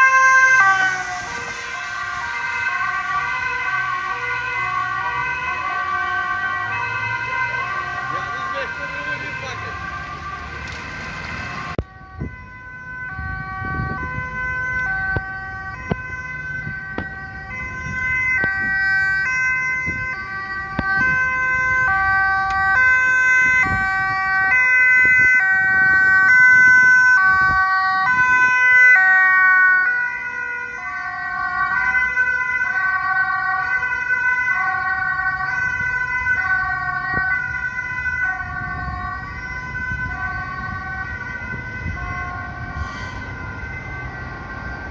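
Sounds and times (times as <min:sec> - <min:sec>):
road traffic rumble: 0:00.0 - 0:44.9
two-tone ambulance siren: 0:00.0 - 0:44.9.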